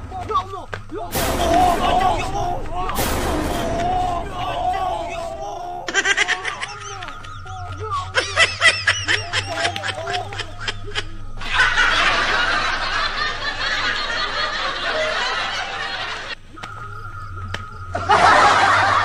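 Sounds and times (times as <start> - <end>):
people laughing: 0.0 - 19.0.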